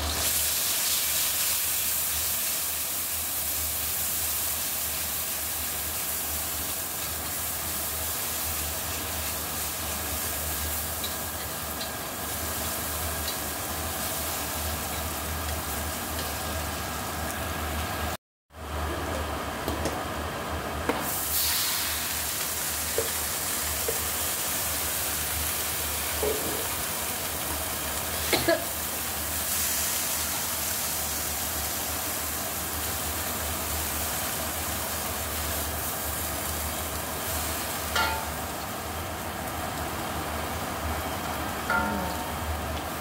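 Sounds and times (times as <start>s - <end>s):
greens sizzling in a wok: 0.0s - 18.2s, 21.0s - 43.0s.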